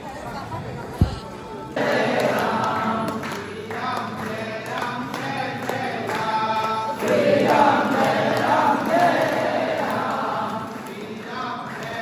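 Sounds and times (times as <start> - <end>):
group of voices chanting: 1.8 - 12.0.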